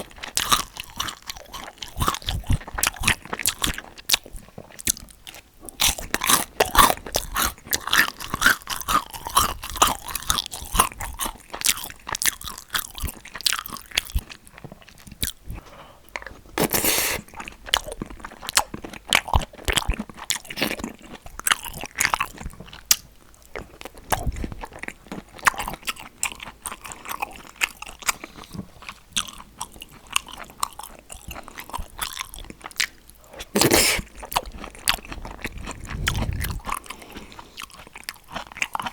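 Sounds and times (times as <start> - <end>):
crunching bites and chewing: 0.0 - 38.9.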